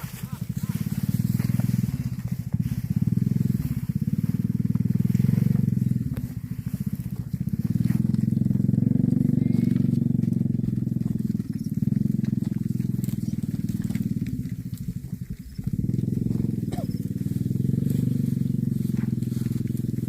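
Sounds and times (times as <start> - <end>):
small engine puttering: 0.0 - 20.0.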